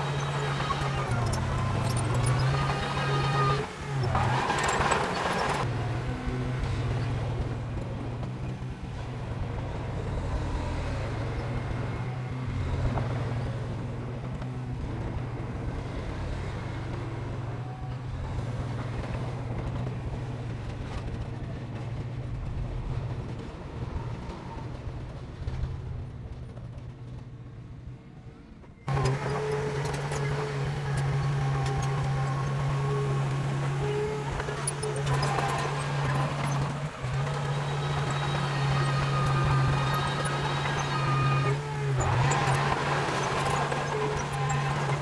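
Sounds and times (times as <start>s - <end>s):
diesel machinery engine hum: 0.0s - 45.0s.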